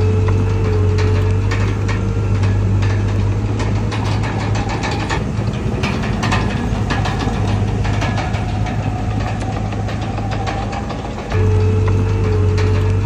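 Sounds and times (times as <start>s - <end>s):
bulldozer diesel engine humming: 0.0s - 13.0s
metallic clicks and clanks: 0.0s - 13.0s.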